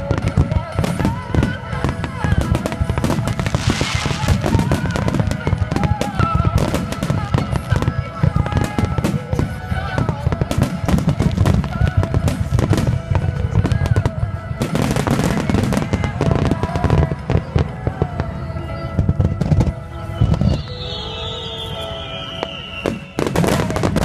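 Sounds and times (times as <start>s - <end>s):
fireworks bursts and crackling: 0.0s - 24.0s
music playing: 0.0s - 24.0s.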